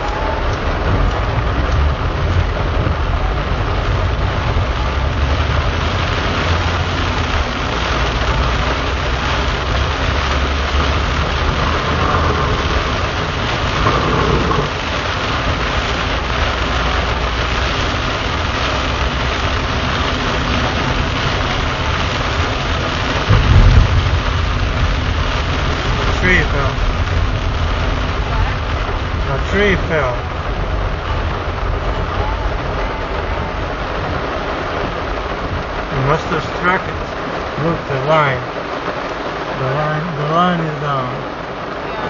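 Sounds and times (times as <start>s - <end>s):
heavy rain drumming on car roof: 0.0s - 42.0s.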